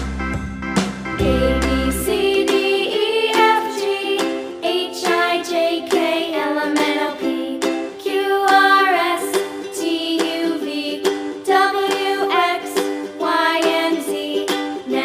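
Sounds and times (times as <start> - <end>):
cheerful children's music: 0.0 - 15.0
plucked ukulele: 0.0 - 15.0
sung melody: 0.0 - 15.0.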